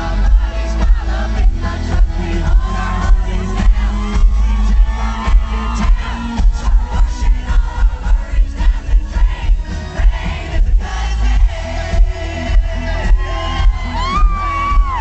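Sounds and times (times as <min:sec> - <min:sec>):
crowd noise: 0:00.0 - 0:15.0
live country band playing: 0:00.0 - 0:15.0
person singing: 0:00.0 - 0:15.0.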